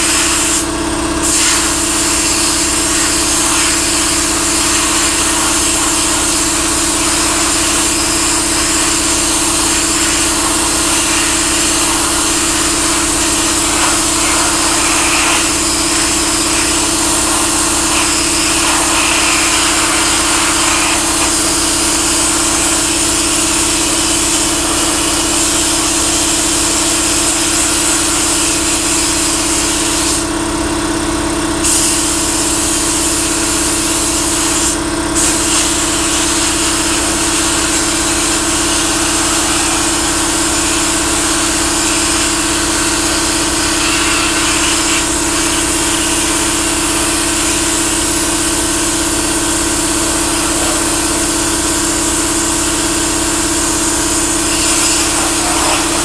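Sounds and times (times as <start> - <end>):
sandblaster hiss: 0.0 - 30.3, 31.6 - 56.0.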